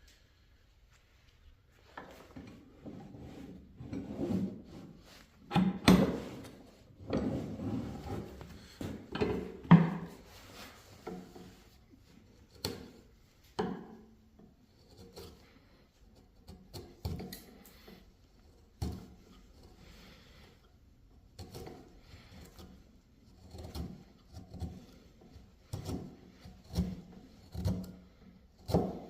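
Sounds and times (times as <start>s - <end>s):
chisel scraping wood: 2.0s - 29.0s.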